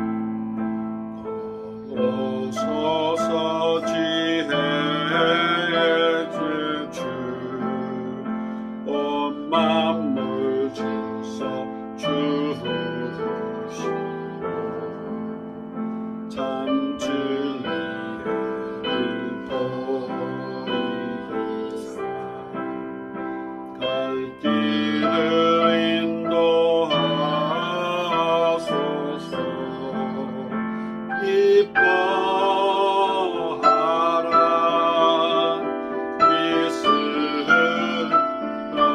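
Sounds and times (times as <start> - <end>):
piano accompaniment: 0.0 - 38.9
man singing a hymn: 1.8 - 15.5, 16.3 - 22.8, 23.8 - 38.9.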